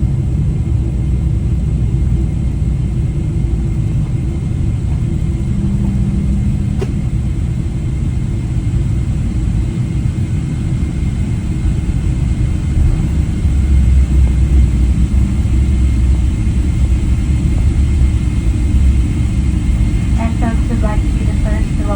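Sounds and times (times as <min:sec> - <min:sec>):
airliner landing rumble: 0:00.0 - 0:21.9.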